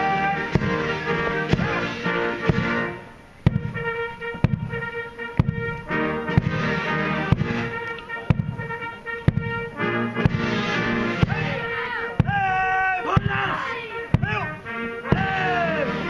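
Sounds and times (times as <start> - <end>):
bass drum beats: 0.0 - 16.0
military band playing a march: 0.0 - 16.0.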